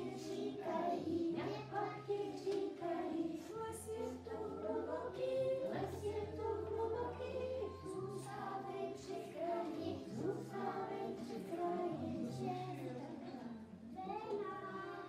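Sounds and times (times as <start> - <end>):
children singing: 0.0 - 13.4, 14.3 - 15.0.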